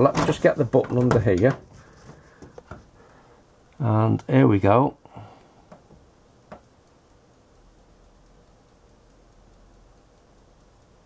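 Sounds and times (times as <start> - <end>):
faint low hum: 0.0 - 11.0
faint ticking: 0.0 - 11.0.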